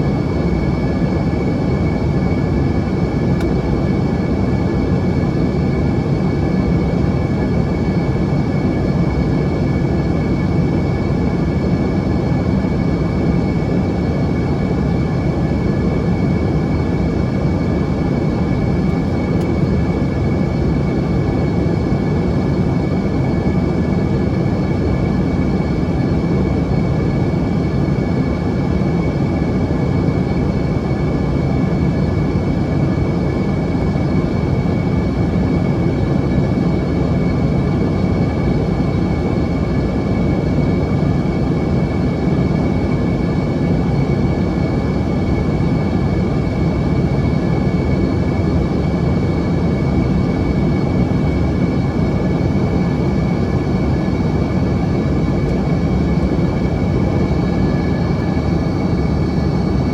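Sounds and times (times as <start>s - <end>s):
jet engine drone: 0.0s - 59.9s
thin steady whine: 0.0s - 59.9s.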